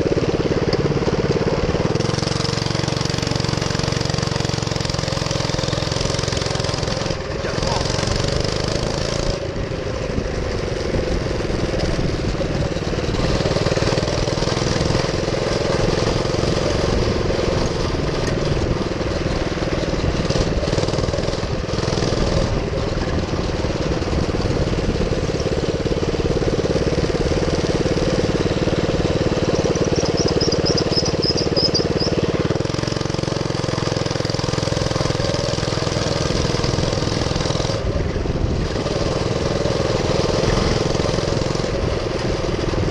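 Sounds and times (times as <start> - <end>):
minibike engine running: 0.0 - 42.9.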